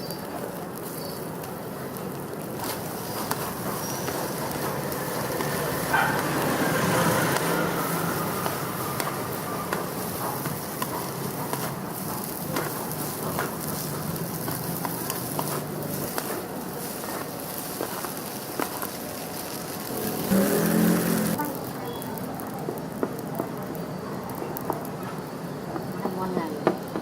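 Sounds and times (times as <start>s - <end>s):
crackles and pops: 0.0s - 27.0s
food sizzling in wok: 0.0s - 27.0s.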